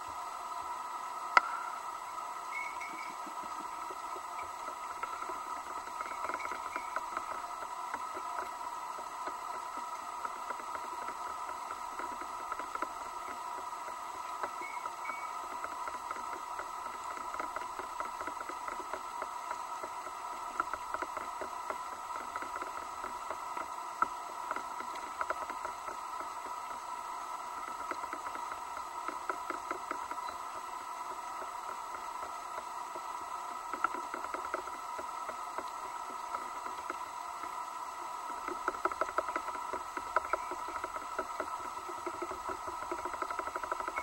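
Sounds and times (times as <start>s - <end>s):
faint clicks and crackles: 0.0s - 44.0s
steady underwater hum: 0.0s - 44.0s.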